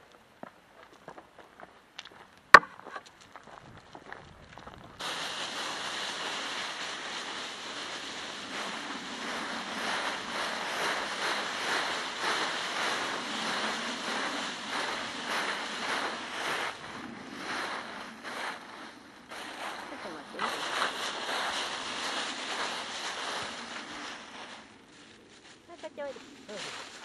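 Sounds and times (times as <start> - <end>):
dry leaves crunching underfoot: 4.6 - 27.0.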